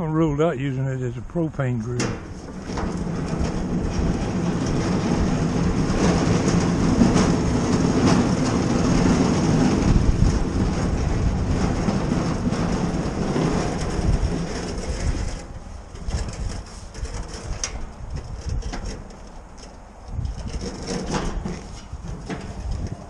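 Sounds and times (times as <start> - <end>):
grill wheels rolling on concrete: 0.0 - 23.0.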